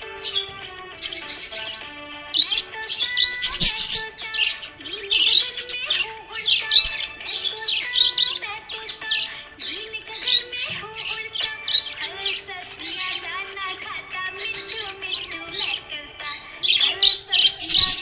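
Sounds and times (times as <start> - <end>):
parrots chirping and squawking: 0.0 - 18.0.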